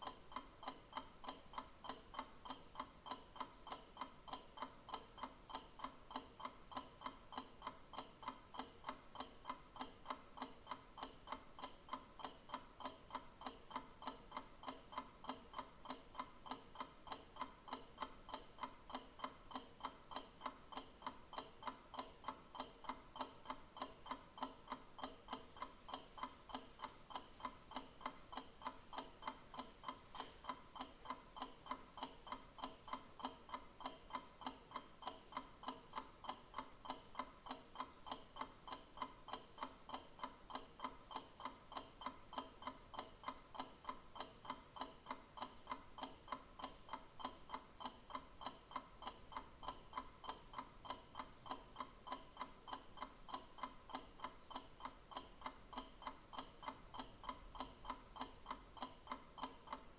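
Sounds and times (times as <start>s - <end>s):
clock ticking fast: 0.0s - 59.9s.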